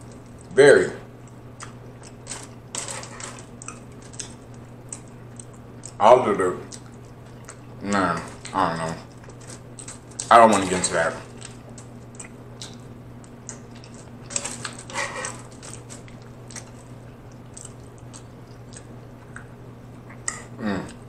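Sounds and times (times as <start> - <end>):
steady low hum: 0.0 - 21.0
person chewing food: 1.1 - 6.0, 6.6 - 10.3, 11.2 - 21.0.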